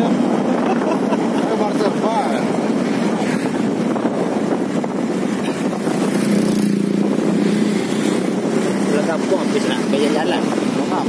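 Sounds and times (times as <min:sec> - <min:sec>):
motorcycle engine hum: 0:00.0 - 0:11.0
wind on microphone: 0:00.0 - 0:11.0.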